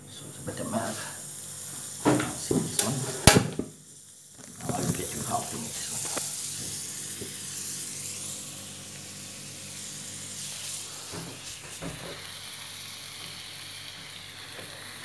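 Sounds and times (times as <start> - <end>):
naan sizzling on hot griddle: 0.1 - 15.0.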